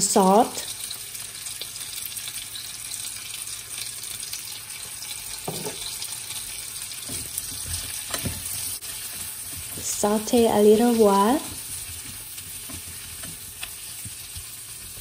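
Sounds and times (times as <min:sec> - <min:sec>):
food sizzling in pan: 0:00.0 - 0:15.0.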